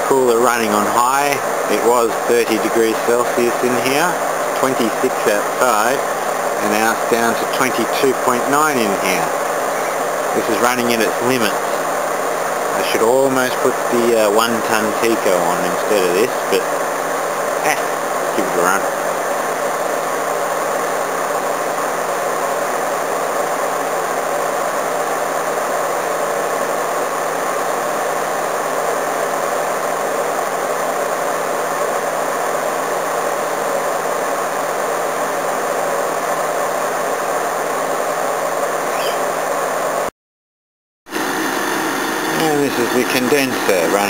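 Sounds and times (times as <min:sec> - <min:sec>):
air conditioner running: 0:00.0 - 0:40.1, 0:41.1 - 0:44.0.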